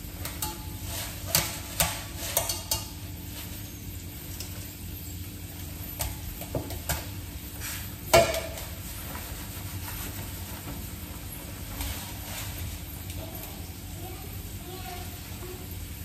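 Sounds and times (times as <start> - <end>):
potatoes sizzling in a pan: 0.0 - 8.9, 9.6 - 16.0.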